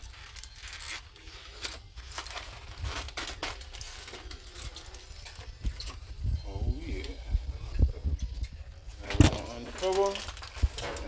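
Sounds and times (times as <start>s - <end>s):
aluminium foil crinkling: 0.0s - 6.2s, 8.2s - 11.0s.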